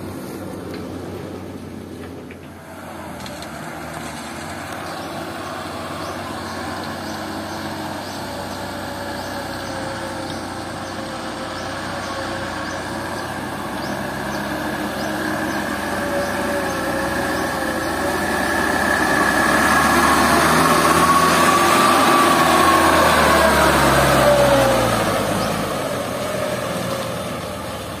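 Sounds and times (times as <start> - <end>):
truck diesel engine passing: 0.0 - 28.0.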